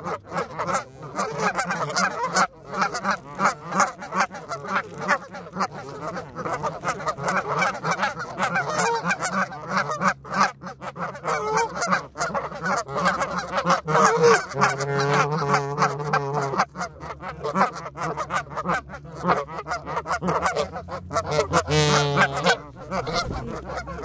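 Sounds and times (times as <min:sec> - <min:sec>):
geese honking and calling: 0:00.0 - 0:24.0.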